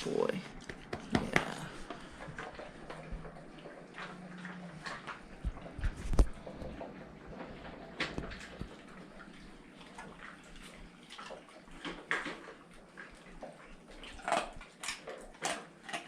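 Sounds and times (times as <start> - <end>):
dog eating wet food: 0.0 - 16.0.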